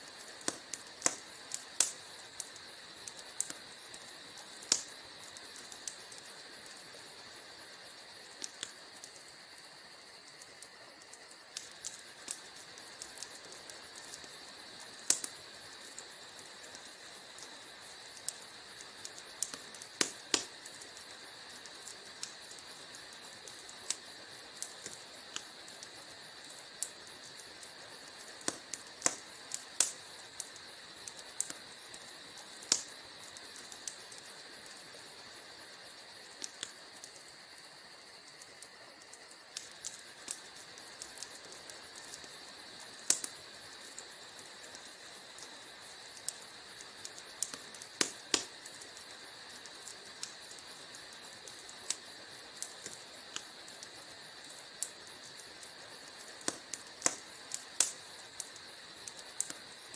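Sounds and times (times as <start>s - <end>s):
fire hissing: 0.0s - 59.9s
fire pops and snaps: 0.0s - 59.9s.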